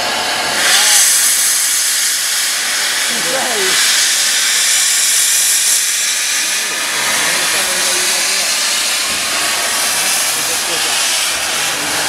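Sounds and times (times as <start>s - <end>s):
steam locomotive hissing steam: 0.0s - 12.0s.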